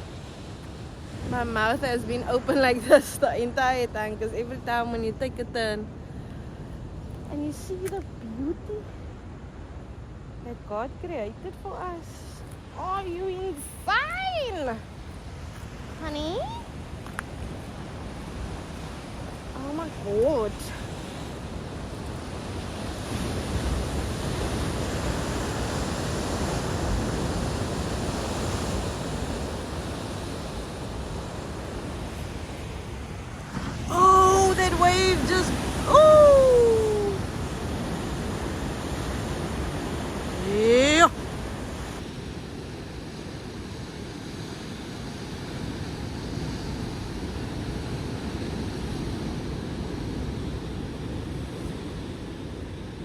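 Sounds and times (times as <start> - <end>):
surf breaking on rocky shore: 0.0 - 53.0
wind buffeting microphone: 0.0 - 53.0.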